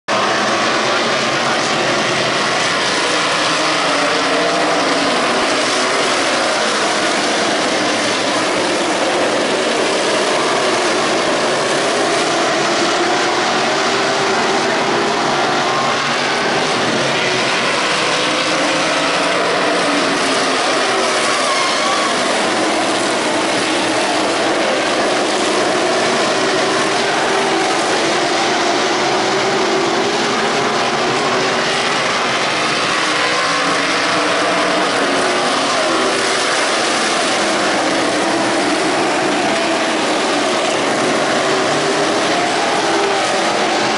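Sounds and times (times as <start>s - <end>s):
race car engines roaring: 0.0s - 43.9s.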